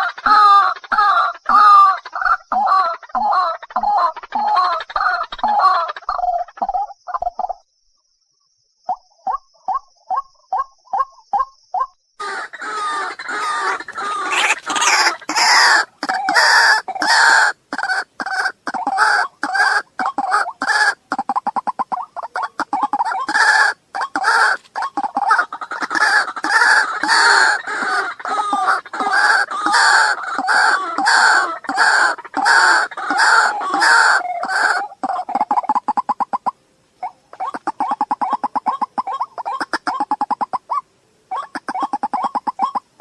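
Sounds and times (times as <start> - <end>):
waterhens calling: 0.0 - 6.9, 12.2 - 43.0.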